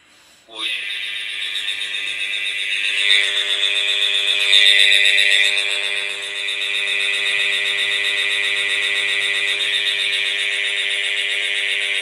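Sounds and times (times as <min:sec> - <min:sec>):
high-pitched electronic alarm tone: 0:00.6 - 0:12.0.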